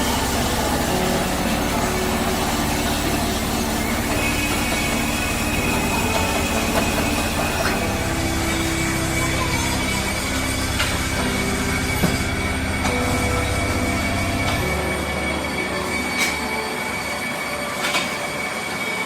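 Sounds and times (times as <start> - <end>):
thin high whine: 0.0 - 19.0
workshop machinery drone: 0.0 - 19.0.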